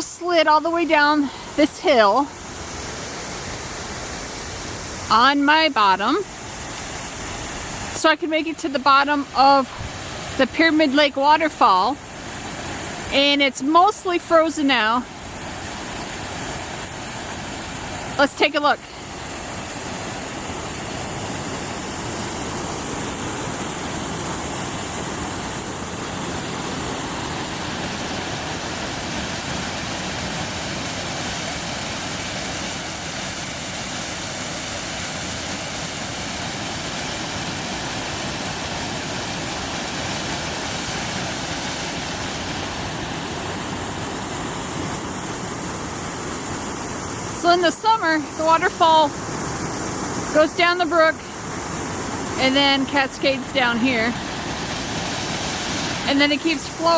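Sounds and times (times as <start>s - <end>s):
water rushing over waterfall: 0.0s - 56.9s.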